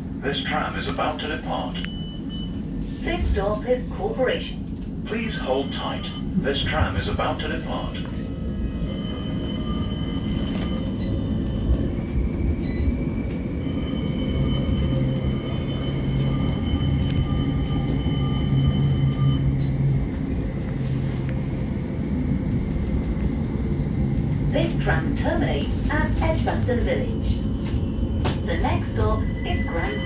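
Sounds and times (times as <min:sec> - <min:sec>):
tram motor whining: 0:00.0 - 0:30.0
wheels rumbling on rails: 0:00.0 - 0:30.0.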